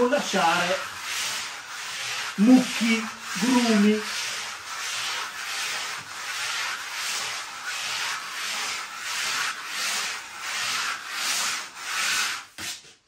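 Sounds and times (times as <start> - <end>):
spatula scraping adhesive on panel: 0.0 - 12.9.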